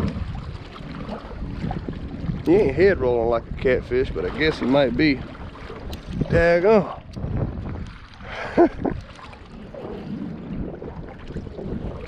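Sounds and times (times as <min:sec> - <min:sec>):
water lapping at boat: 0:00.0 - 0:12.0
wind buffeting microphone: 0:00.0 - 0:12.0.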